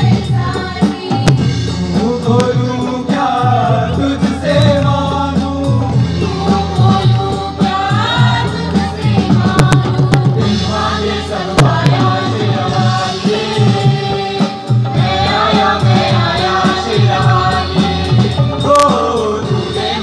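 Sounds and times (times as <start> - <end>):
hand drums playing rhythm: 0.0 - 20.0
men singing together through pa: 0.0 - 20.0.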